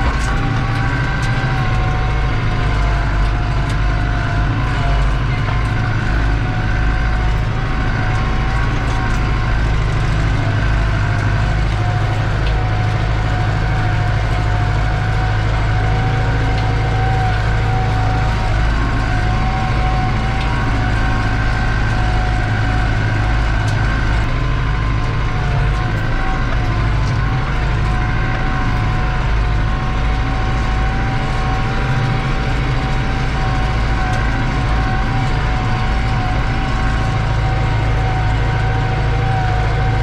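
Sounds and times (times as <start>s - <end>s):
tractor diesel engine drone: 0.0s - 40.0s
turbo whine: 0.0s - 40.0s.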